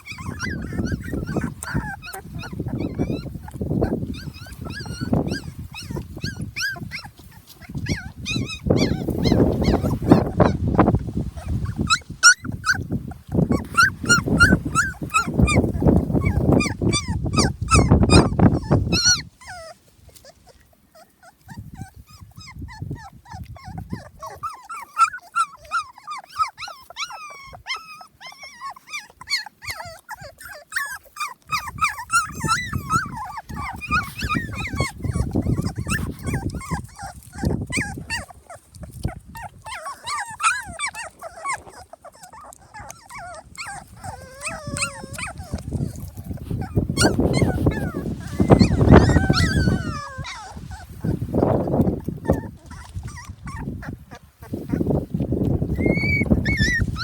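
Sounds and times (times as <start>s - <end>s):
puppies whimpering and squealing: 0.0s - 57.0s.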